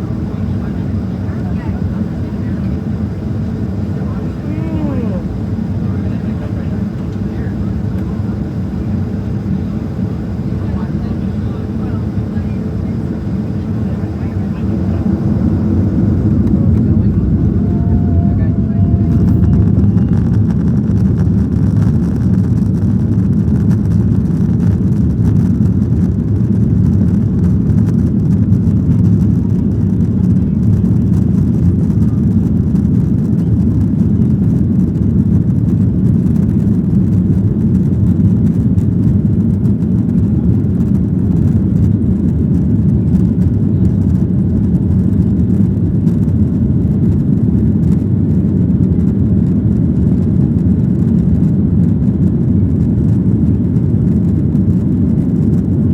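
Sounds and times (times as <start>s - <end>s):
jet engines rumbling: 0.0s - 55.9s.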